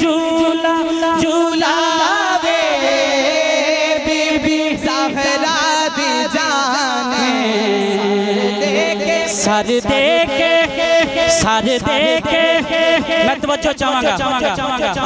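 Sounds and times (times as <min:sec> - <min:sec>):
man singing ornamented melody: 0:00.0 - 0:13.4.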